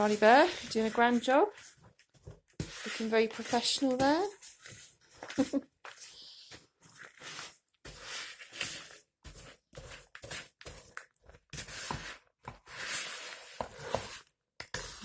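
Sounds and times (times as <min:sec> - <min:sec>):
spoon scraping mixing bowl: 0:00.0 - 0:15.0.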